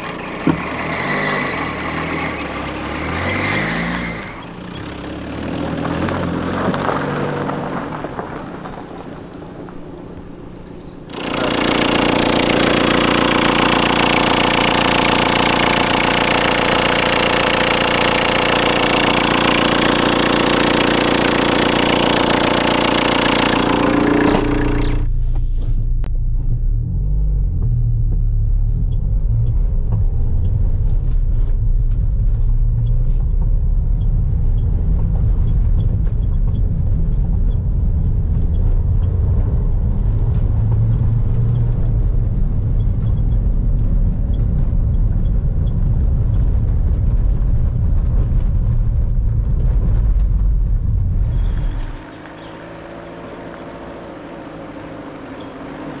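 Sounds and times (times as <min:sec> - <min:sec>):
engine and tyres rumbling in cab: 0:00.0 - 0:56.0
diesel engine running close up: 0:09.2 - 0:56.0.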